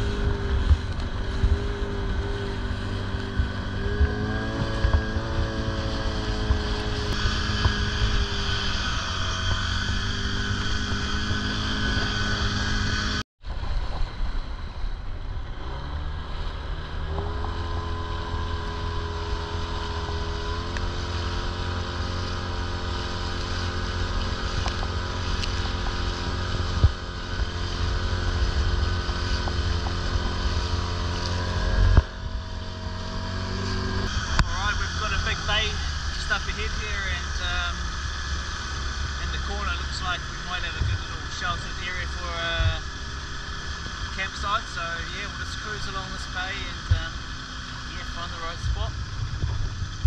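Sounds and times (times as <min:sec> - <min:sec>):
motorboat engine running: 0:00.0 - 0:50.0
wind rumbling on microphone: 0:00.0 - 0:50.0.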